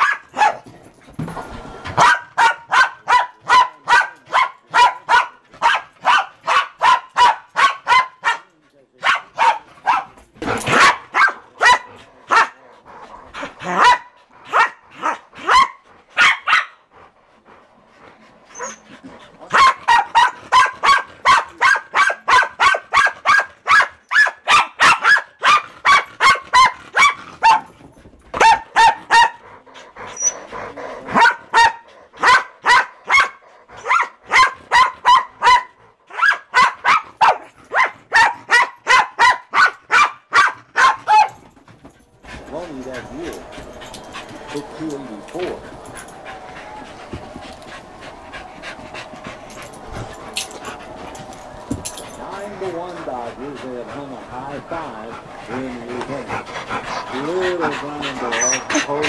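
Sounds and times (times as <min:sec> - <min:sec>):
dogs barking rapidly: 0:00.0 - 0:00.7, 0:02.0 - 0:16.9, 0:18.5 - 0:59.0.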